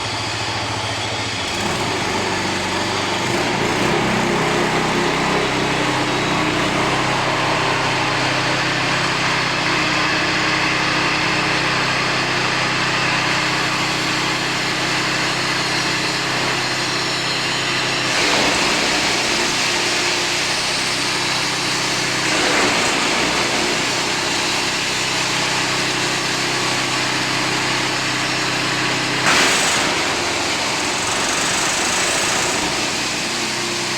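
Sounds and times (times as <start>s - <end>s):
wood chipper engine running: 0.0s - 33.9s
wood going through chipper: 0.0s - 33.9s.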